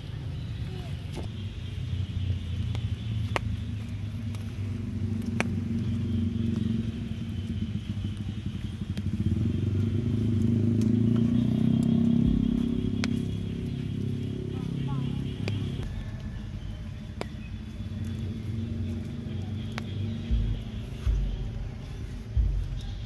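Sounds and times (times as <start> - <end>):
engine running with pulsing rumble: 0.0 - 23.0.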